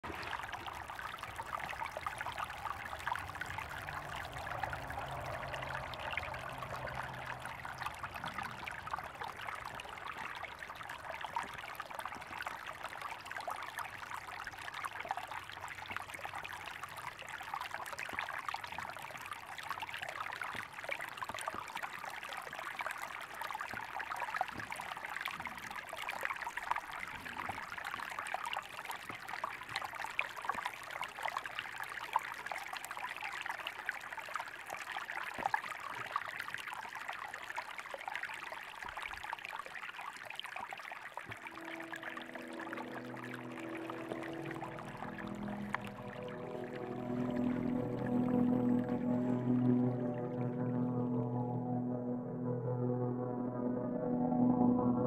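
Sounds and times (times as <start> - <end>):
creek water babbling: 0.0 - 51.3.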